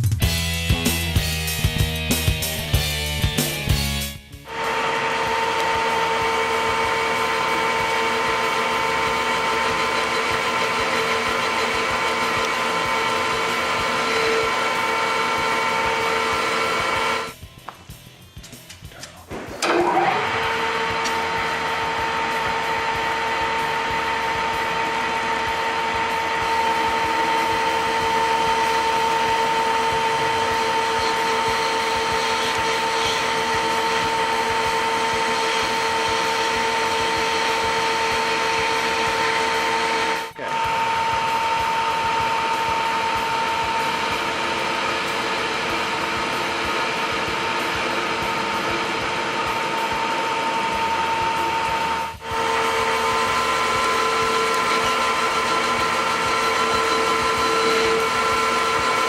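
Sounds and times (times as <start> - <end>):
lathe geared whine: 4.4 - 17.6, 19.6 - 59.0
mechanical hum: 4.4 - 59.0.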